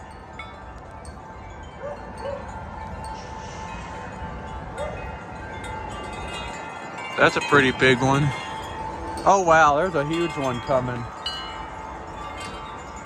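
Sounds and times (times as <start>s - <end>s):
low wind rumble: 0.0s - 13.0s
wind chimes ringing: 0.0s - 13.0s.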